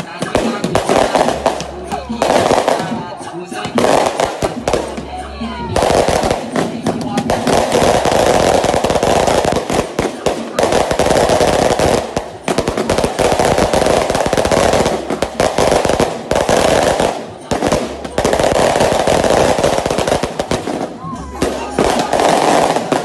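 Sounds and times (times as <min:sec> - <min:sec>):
firecrackers crackling: 0:00.0 - 0:23.0.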